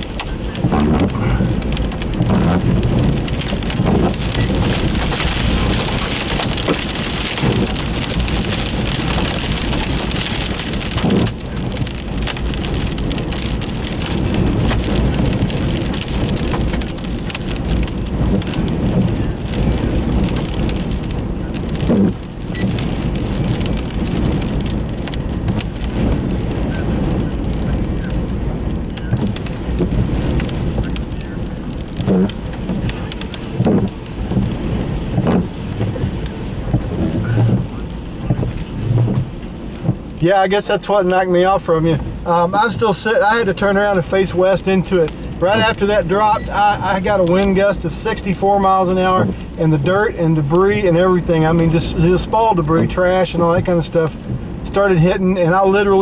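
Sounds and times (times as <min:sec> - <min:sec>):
debris pelting vehicle windows: 0:00.0 - 0:56.0
wind buffeting a vehicle: 0:00.0 - 0:56.0.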